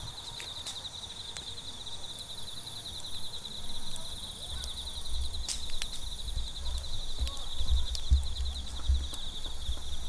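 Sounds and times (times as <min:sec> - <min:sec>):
campfire crackles: 0:00.0 - 0:10.0
crickets chirring: 0:00.0 - 0:10.0.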